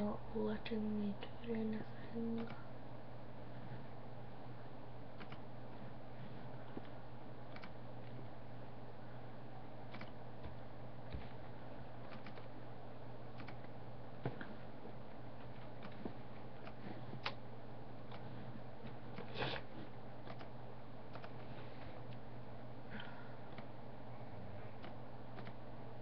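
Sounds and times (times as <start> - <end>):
low hum and hiss: 0.0 - 26.0.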